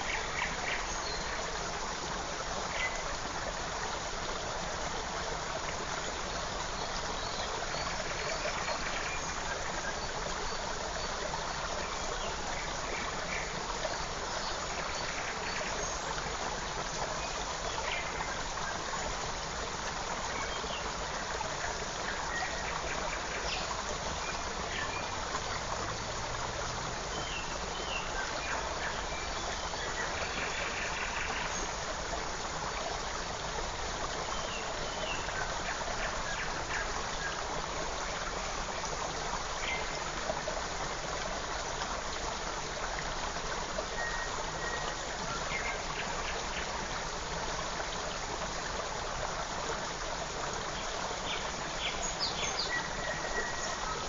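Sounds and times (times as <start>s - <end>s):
creek flowing: 0.0s - 54.0s.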